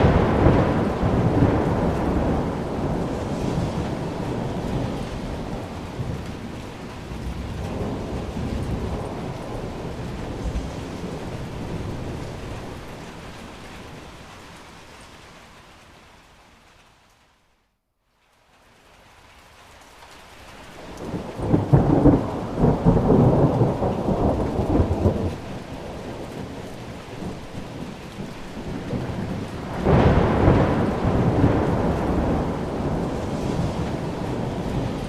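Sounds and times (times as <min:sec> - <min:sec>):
thunder rumbling: 0:00.0 - 0:14.3, 0:20.8 - 0:35.0
steady rain: 0:00.0 - 0:35.0.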